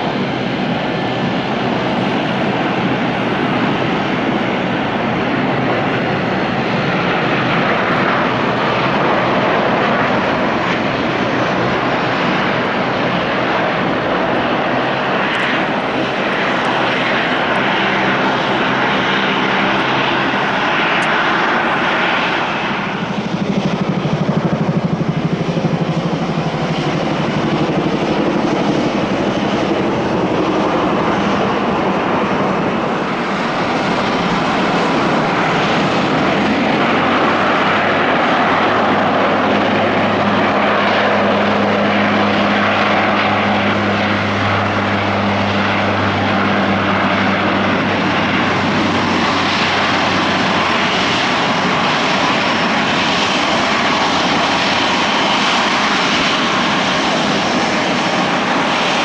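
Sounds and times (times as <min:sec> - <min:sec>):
turboprop airliner taking off: 0:00.0 - 0:59.0.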